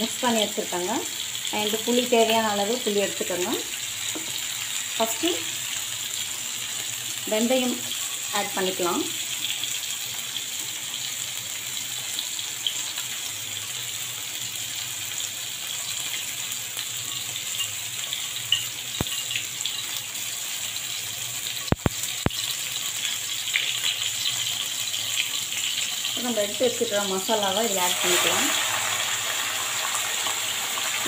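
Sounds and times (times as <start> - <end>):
hot oil sizzling: 0.0 - 31.0.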